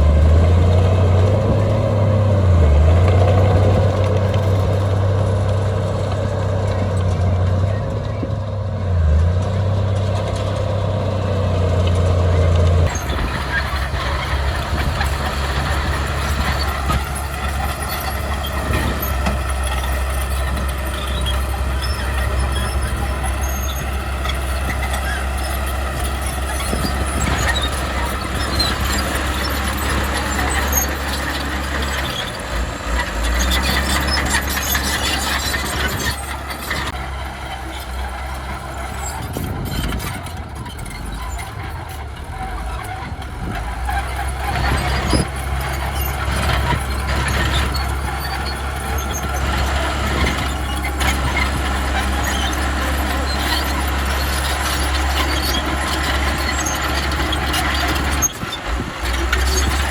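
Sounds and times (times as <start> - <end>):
diesel machinery engine drone: 0.0 - 59.9
faint high clicks and squeaks: 12.0 - 59.9.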